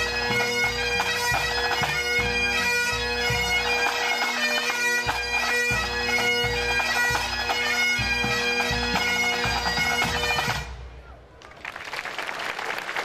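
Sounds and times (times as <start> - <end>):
bagpipes melody over drones: 0.0 - 10.8.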